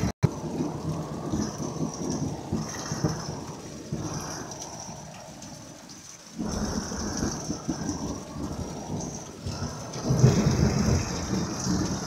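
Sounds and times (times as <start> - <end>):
rain falling: 0.0 - 12.0
thunder rumbling: 0.0 - 12.0.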